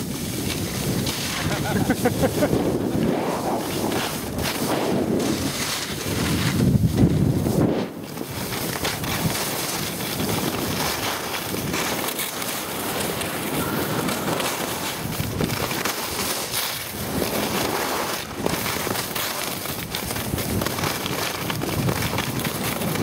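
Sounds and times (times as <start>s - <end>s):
wind rushing over microphone: 0.0s - 18.9s, 19.5s - 23.0s
skis running over packed snow: 0.0s - 23.0s.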